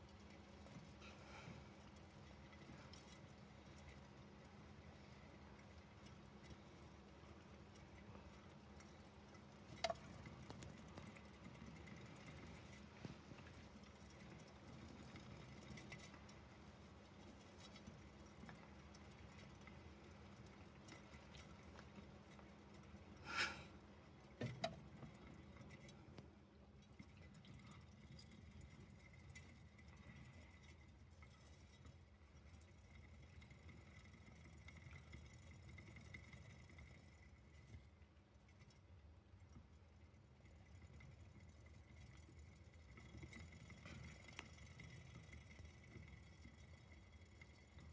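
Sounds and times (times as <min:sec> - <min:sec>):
faint ticking and pattering: 0:00.0 - 0:47.9.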